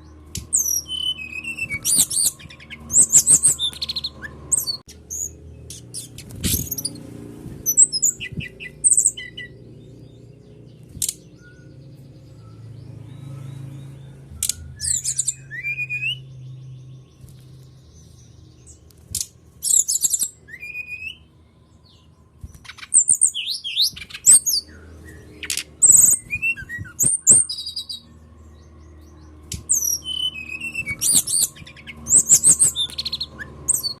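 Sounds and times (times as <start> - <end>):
songbird chirps and trills: 0.0 - 34.0.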